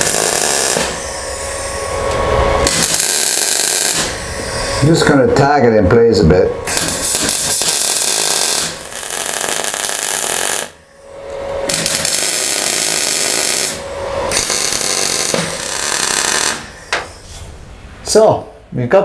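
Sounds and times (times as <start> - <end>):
welder arc crackling and hissing: 0.0 - 5.3, 6.7 - 18.2.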